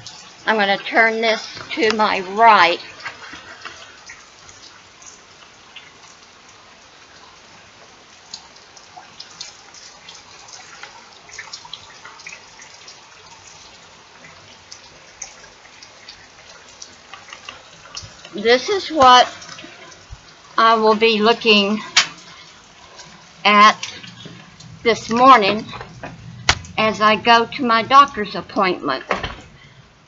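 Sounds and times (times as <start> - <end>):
close drips and splashes: 0.0 - 27.1
steady rain: 0.0 - 30.0.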